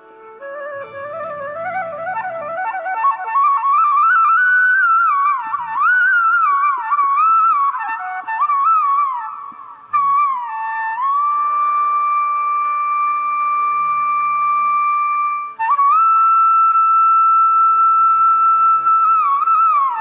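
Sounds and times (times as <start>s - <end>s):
flute-like melody: 0.0s - 20.0s.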